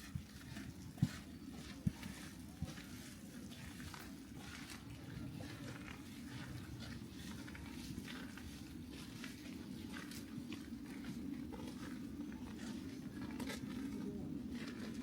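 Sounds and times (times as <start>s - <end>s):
faint low rumble: 0.0s - 15.0s
footsteps on snow: 0.0s - 15.0s.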